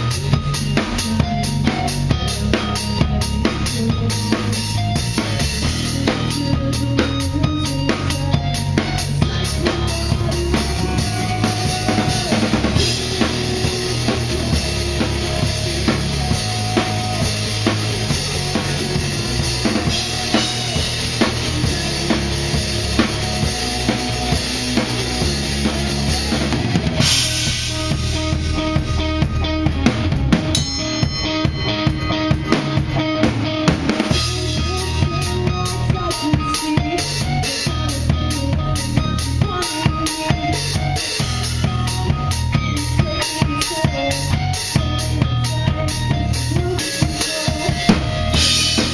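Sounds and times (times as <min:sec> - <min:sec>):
drum kit beat: 0:00.0 - 0:48.9
live rock band playing: 0:00.0 - 0:48.9.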